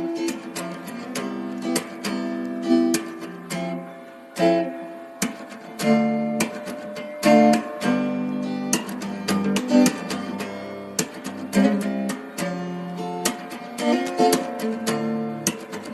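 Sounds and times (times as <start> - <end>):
acoustic guitar chords: 0.0 - 15.9.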